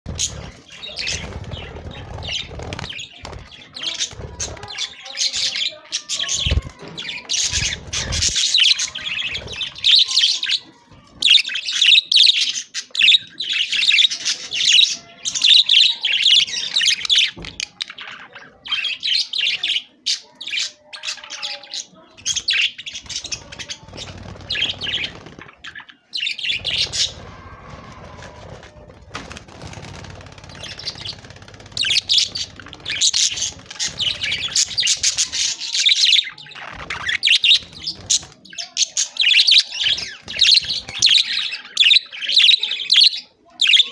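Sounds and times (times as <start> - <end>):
budgerigars chirping: 0.1 - 28.3, 30.4 - 43.9.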